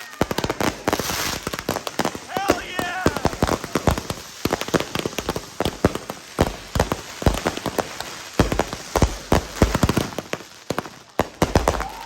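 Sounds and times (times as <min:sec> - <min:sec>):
firecrackers crackling and popping: 0:00.0 - 0:12.0.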